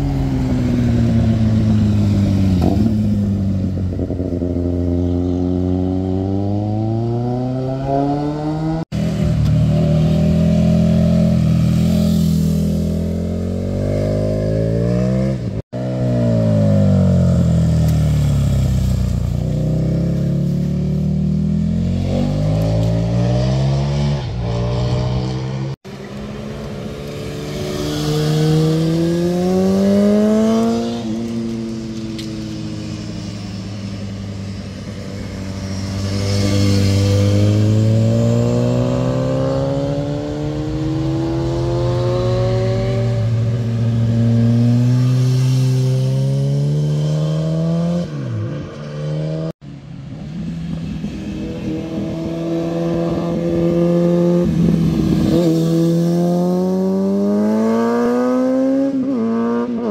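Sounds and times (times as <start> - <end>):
motorcycle engines accelerating: 0.0 - 59.9.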